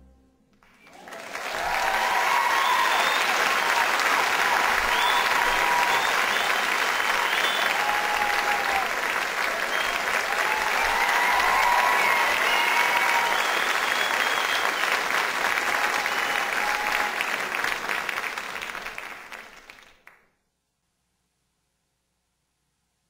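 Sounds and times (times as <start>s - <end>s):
people cheering: 0.6s - 20.0s
audience applauding: 0.6s - 20.2s.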